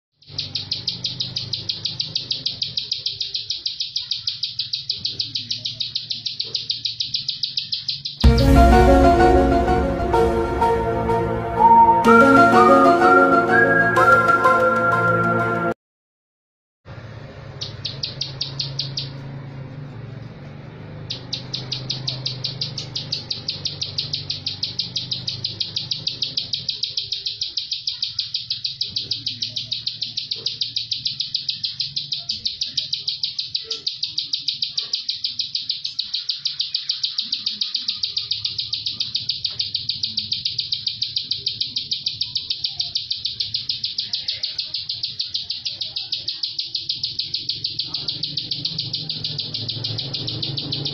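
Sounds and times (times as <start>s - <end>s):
bird singing rapid repeated notes: 0.1s - 15.7s, 17.4s - 50.9s.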